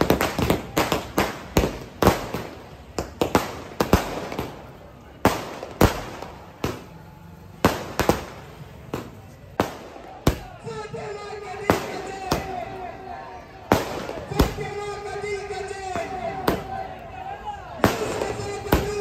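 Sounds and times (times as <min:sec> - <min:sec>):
firecrackers banging: 0:00.0 - 0:19.0.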